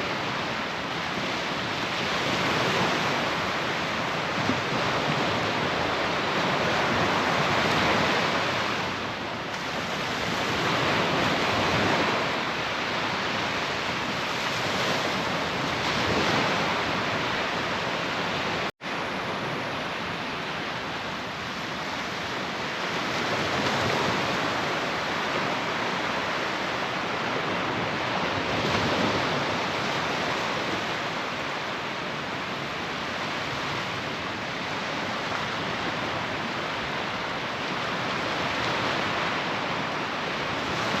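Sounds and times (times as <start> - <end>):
sea surf breaking on beach: 0.0 - 41.0.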